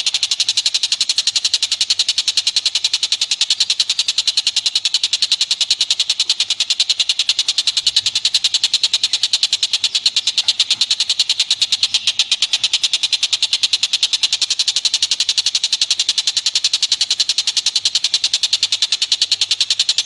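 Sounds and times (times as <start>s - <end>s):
animal chattering high notes: 0.0s - 20.0s.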